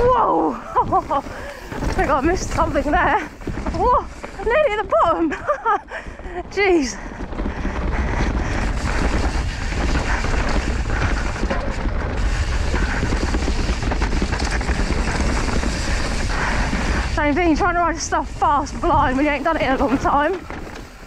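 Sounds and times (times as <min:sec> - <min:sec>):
bike rattling and knocking: 0:00.0 - 0:21.0
tyres rumbling on dirt: 0:00.0 - 0:21.0
wind buffeting microphone: 0:00.0 - 0:21.0.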